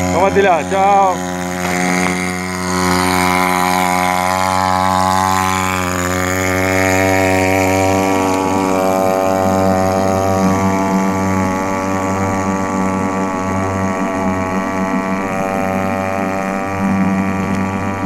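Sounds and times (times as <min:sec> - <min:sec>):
small outboard motor running: 0:00.0 - 0:18.0.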